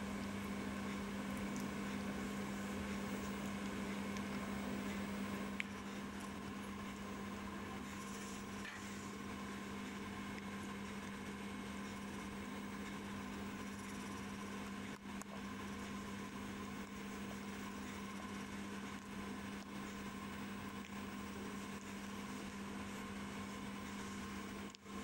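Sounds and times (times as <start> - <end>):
constant hiss: 0.0 - 25.0
steady hum: 0.0 - 25.0.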